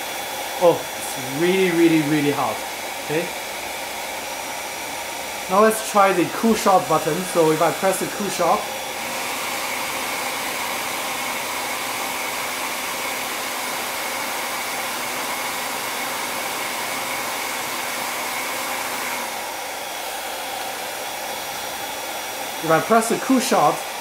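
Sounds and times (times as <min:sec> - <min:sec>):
hair dryer blowing with whine: 0:00.0 - 0:24.0.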